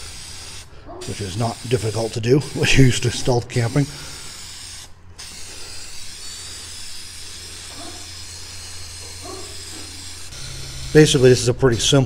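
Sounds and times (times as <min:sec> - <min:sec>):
spray-paint can hissing: 0:00.0 - 0:12.0.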